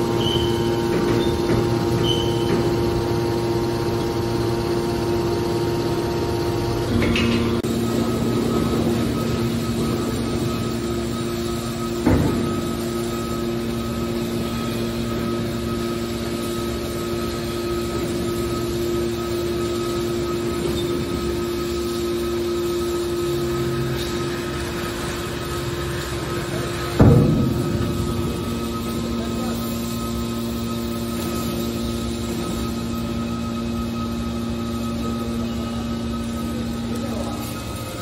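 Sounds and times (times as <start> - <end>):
baler machinery humming: 0.0 - 38.0
constant machine tones: 0.0 - 38.0.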